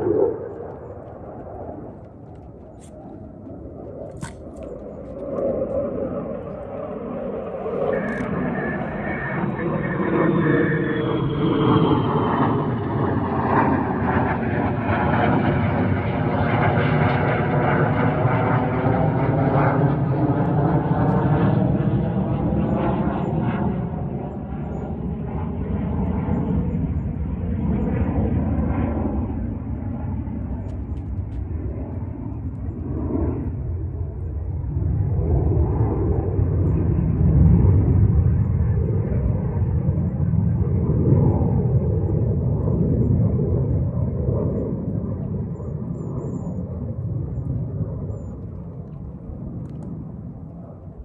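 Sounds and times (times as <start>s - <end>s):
deep jet rumble: 0.0s - 51.0s.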